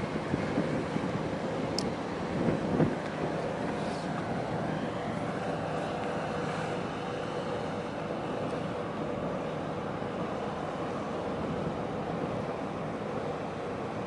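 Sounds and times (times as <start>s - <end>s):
ship engine droning: 0.0s - 14.0s
water noise: 0.0s - 14.0s
wind: 0.0s - 14.0s.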